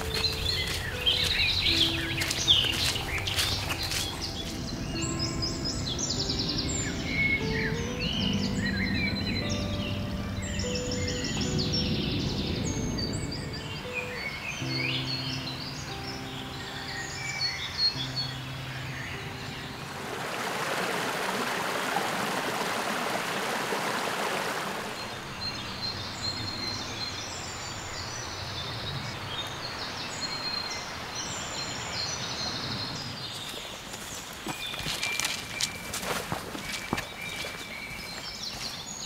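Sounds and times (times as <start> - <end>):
stream water rushing: 0.0 - 9.7, 12.6 - 39.0
birds singing and chirping: 0.0 - 39.0.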